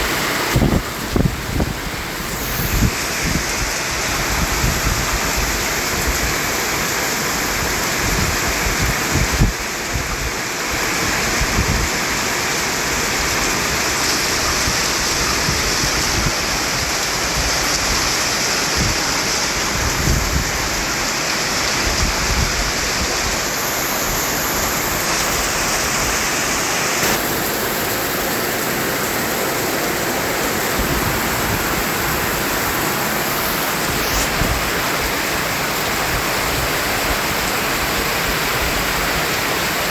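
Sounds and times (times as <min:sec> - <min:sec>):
white noise hiss: 0:00.0 - 0:15.0, 0:18.5 - 0:39.9.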